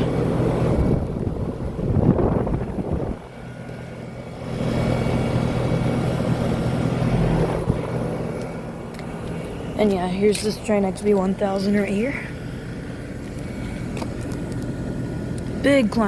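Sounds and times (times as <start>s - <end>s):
condenser fan whooshing: 0.0s - 13.1s
compressor humming: 0.0s - 16.0s.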